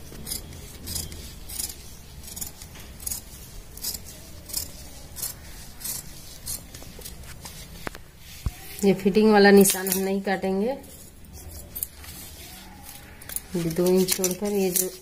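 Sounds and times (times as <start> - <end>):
shears snipping fabric: 0.0 - 8.8, 11.4 - 15.0.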